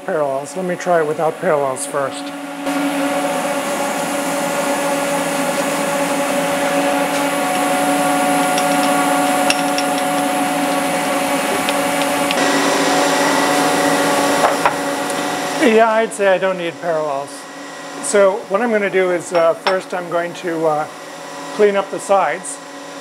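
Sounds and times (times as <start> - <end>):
machine hum with whining tones: 0.0 - 23.0.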